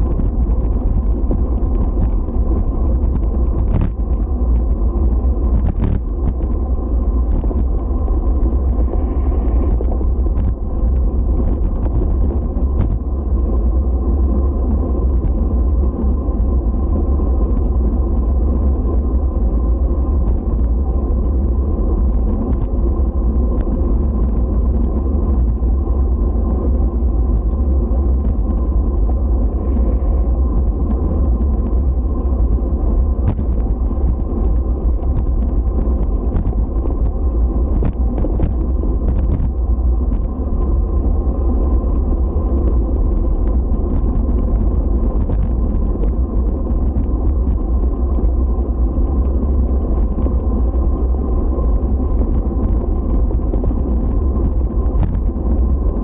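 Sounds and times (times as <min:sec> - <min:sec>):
low rumble of travel over pavement: 0:00.0 - 0:56.0.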